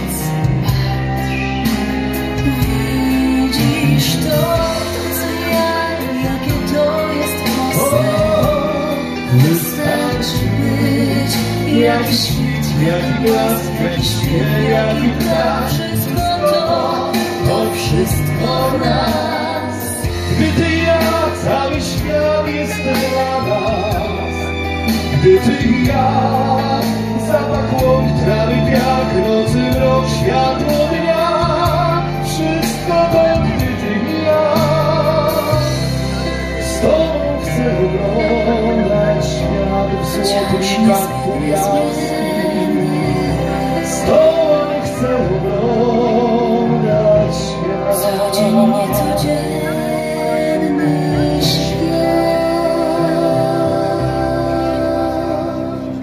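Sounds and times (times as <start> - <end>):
instrumental accompaniment: 0.0 - 56.0
man and woman singing duet: 0.0 - 56.0.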